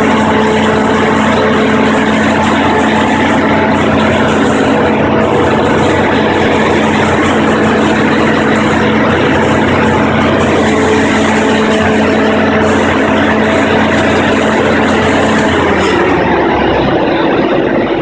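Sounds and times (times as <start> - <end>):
generator engine humming: 0.0 - 18.0.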